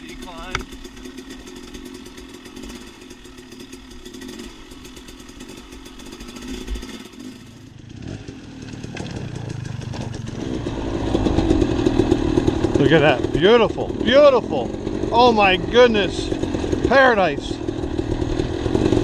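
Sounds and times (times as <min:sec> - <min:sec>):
dirt bike engine low revs: 0:00.0 - 0:19.0.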